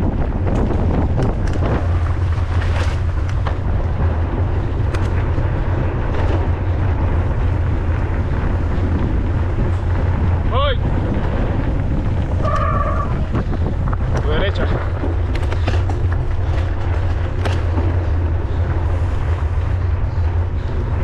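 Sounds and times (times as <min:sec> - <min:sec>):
bike clicks and rattles: 0:00.0 - 0:21.0
wind rushing over microphone: 0:00.0 - 0:21.0.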